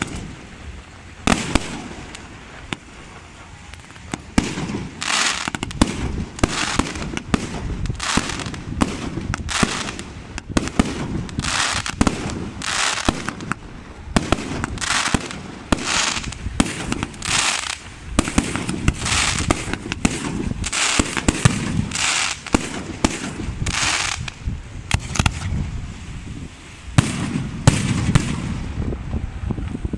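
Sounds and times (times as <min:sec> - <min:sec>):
fireworks bangs: 0:00.0 - 0:25.8, 0:26.9 - 0:29.1
fireworks hissing bursts: 0:00.0 - 0:29.0.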